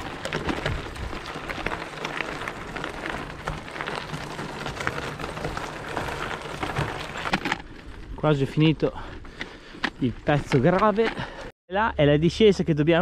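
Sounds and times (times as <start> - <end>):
bike tyres rolling on gravel: 0.0 - 11.5.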